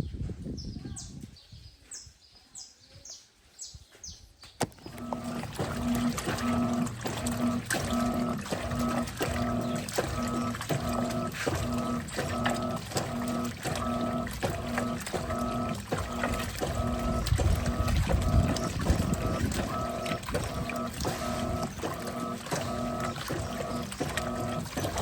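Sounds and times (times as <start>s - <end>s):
birds chirping: 0.0s - 25.0s
washing machine motor humming: 4.6s - 25.0s
water sloshing: 4.6s - 25.0s.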